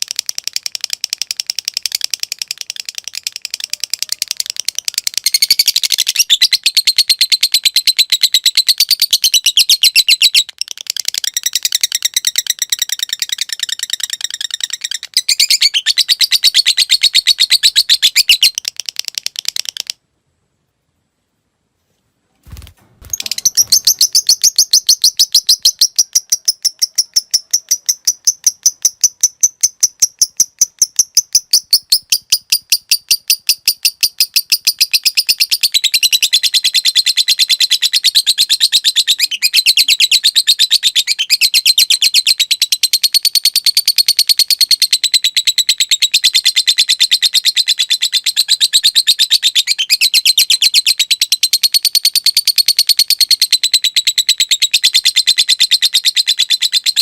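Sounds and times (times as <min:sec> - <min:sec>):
bird chattering trill: 0:00.0 - 0:20.0, 0:23.1 - 0:57.0.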